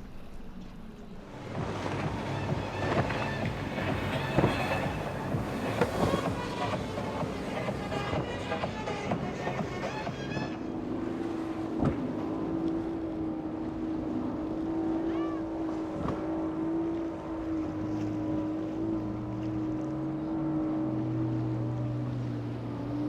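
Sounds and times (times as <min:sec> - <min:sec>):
lower engine note: 0:00.0 - 0:23.0
motorboat engines running: 0:00.0 - 0:23.0.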